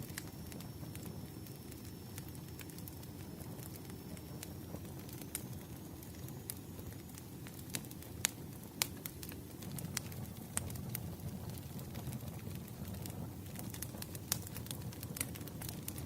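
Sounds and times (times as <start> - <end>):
fire popping and snapping: 0.0 - 16.0
fire rumbling: 0.0 - 16.0.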